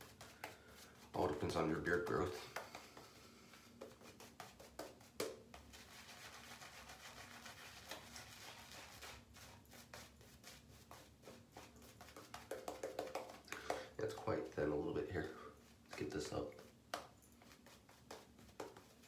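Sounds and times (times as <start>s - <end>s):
brush tap: 0.0s - 19.0s
shaving brush swishing on face: 0.0s - 19.0s.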